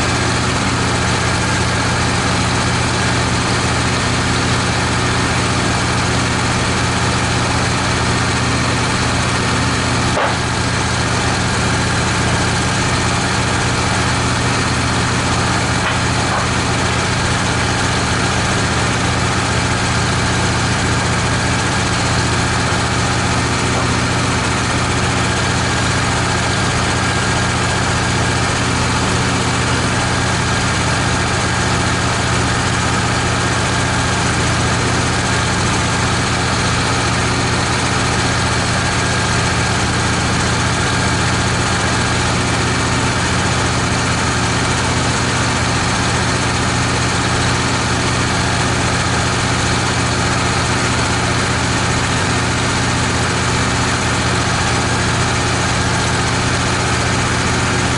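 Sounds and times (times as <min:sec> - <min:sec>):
sawmill engine running: 0:00.0 - 0:57.9.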